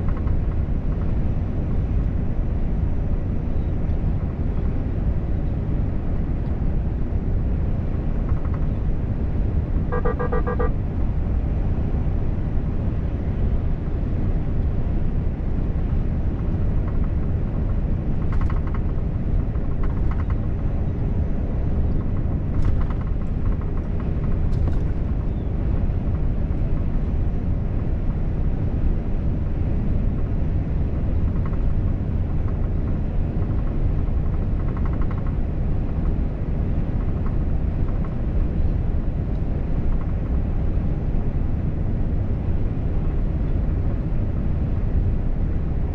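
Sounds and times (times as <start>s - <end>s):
truck engine and tyre drone: 0.0s - 45.9s.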